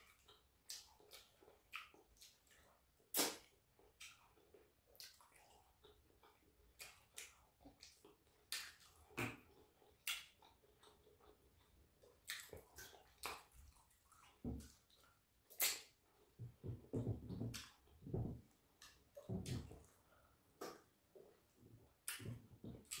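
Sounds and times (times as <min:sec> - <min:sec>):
lip smacks and chewing: 0:00.0 - 0:23.0.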